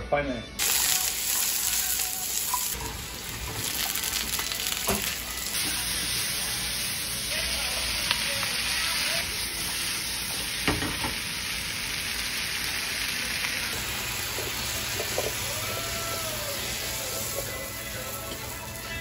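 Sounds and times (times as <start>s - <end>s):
vegetables sizzling in hot oil: 0.6s - 19.0s.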